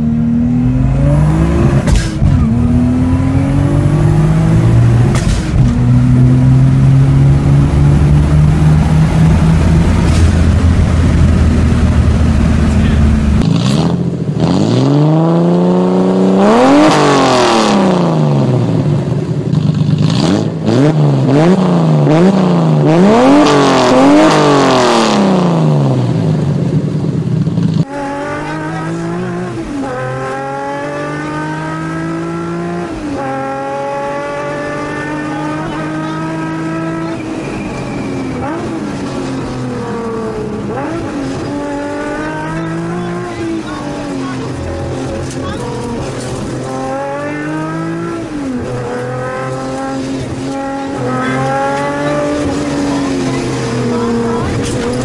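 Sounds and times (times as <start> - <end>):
car engine revving hard: 0.0 - 26.7, 27.7 - 55.0
engine rising through gear changes: 0.0 - 55.0.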